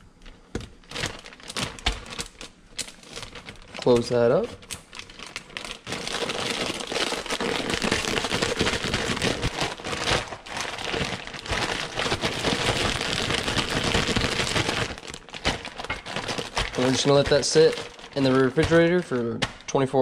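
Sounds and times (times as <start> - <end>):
plastic bag crinkling: 0.2 - 20.0.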